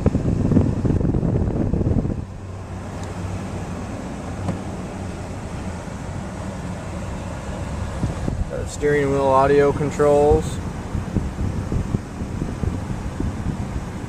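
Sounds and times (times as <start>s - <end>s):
low hum inside truck cab: 0.0s - 14.0s
wind buffeting microphone: 0.0s - 14.0s.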